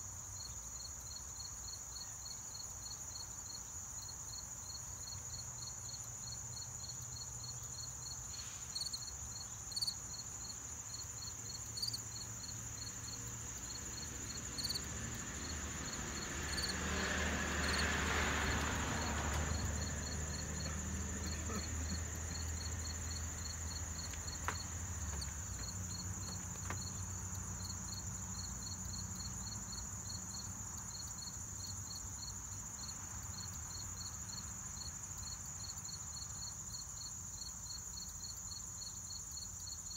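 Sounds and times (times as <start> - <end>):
high insect drone: 0.0 - 39.9
insects chirping: 0.0 - 39.9.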